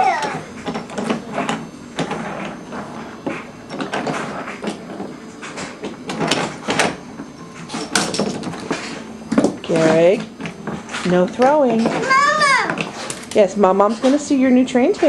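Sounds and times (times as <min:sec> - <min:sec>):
toy trains knocking and clattering: 0:00.0 - 0:15.0.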